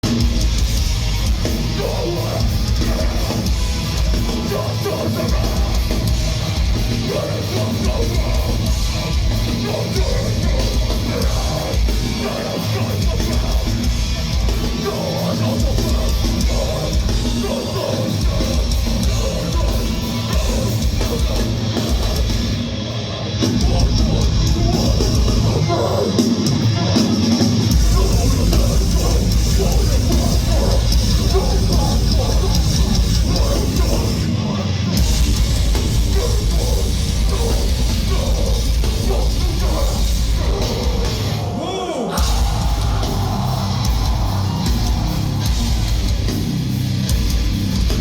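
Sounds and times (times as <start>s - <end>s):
hardcore band playing live: 0.0s - 48.0s.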